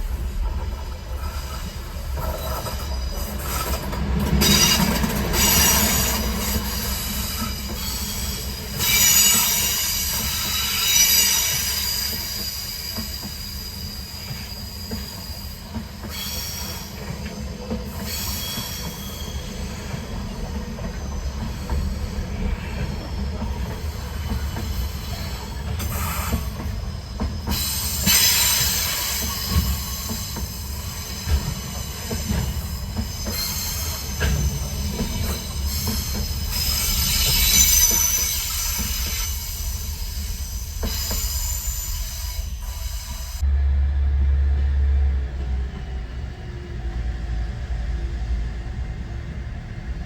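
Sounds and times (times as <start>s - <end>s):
train wagons rumbling: 0.0s - 50.0s.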